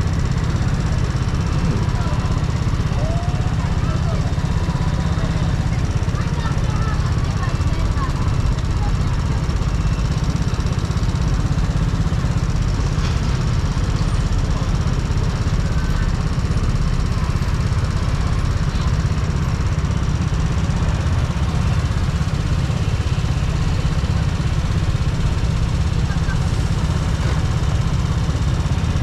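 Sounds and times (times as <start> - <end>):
scooter engine low rumble: 0.0 - 29.0.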